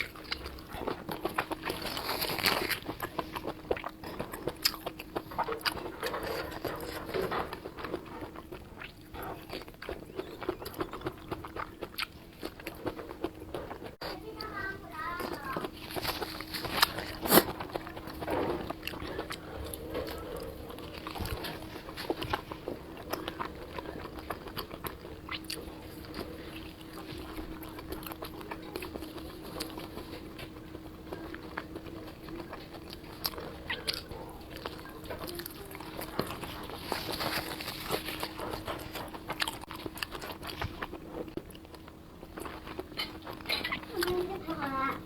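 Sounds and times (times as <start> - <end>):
crunchy bites and chewing: 0.0 - 14.2, 15.2 - 44.2
faint steady hum: 0.0 - 45.0.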